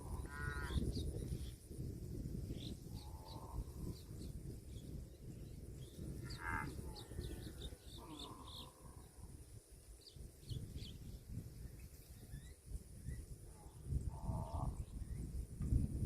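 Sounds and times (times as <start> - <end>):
small birds chirping: 0.0 - 15.5.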